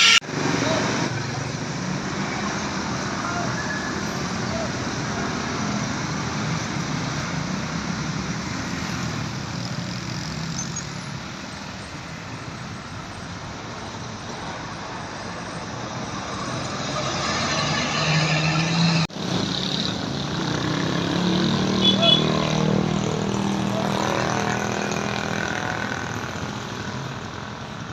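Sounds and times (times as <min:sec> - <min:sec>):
heavy vehicles passing: 0:00.0 - 0:27.9.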